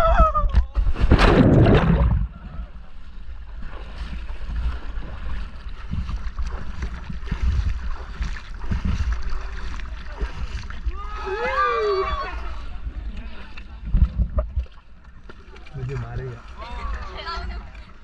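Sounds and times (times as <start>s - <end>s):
wind rumbling on microphone: 0.0s - 14.8s
water splashes: 0.7s - 18.0s.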